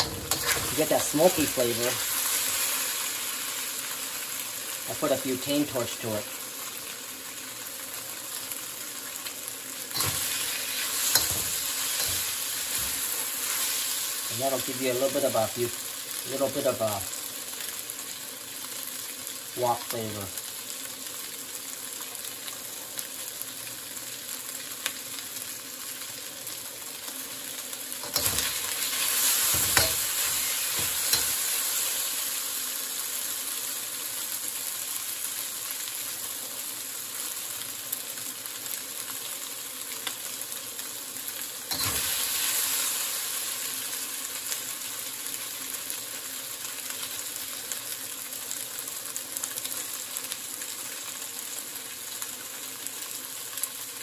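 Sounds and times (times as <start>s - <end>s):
chicken sizzling in a wok: 0.0s - 54.0s.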